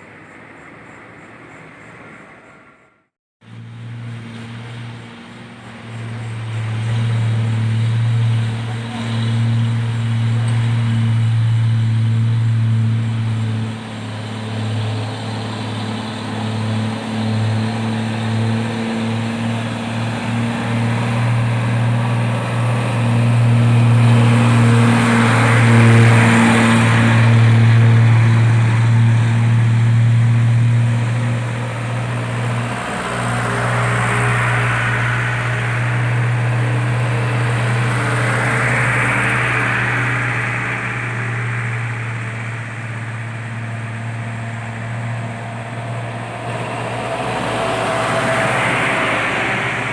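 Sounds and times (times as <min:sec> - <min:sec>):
vehicle engine droning: 0:03.4 - 0:49.9.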